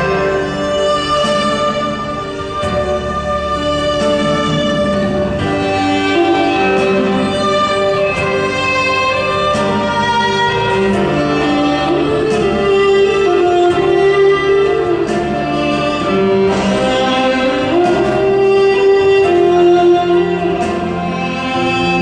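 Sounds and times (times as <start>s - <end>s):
slow bowed string music: 0.0s - 22.0s.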